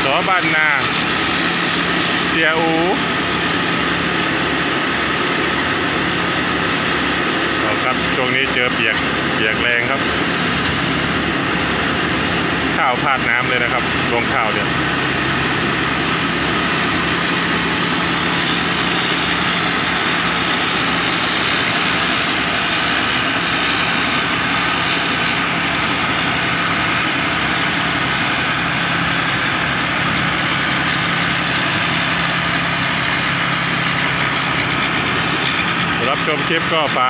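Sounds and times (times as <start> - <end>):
combine harvester running: 0.0 - 37.0
steady low hum: 0.0 - 37.0.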